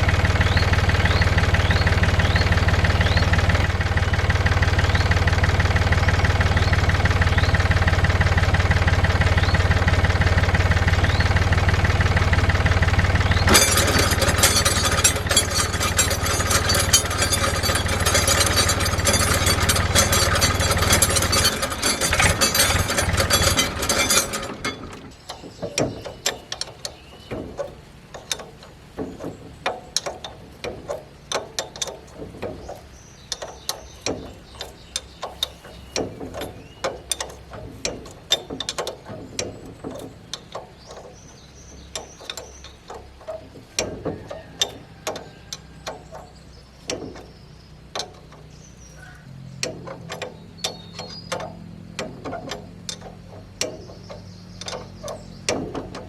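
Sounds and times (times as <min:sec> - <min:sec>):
hand tools on metal parts: 0:00.0 - 0:56.0.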